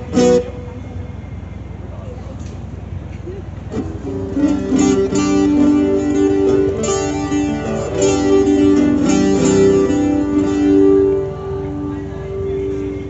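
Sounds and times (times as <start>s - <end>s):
acoustic guitar strumming chords: 0.0s - 1.2s, 3.7s - 13.0s.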